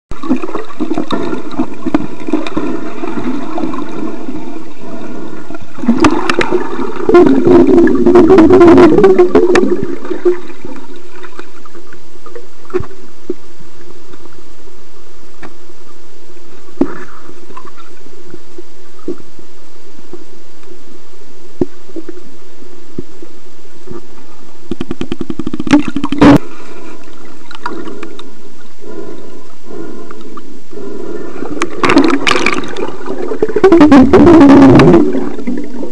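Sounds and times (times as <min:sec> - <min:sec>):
muffled underwater rushing: 0:00.1 - 0:20.4, 0:21.5 - 0:35.9.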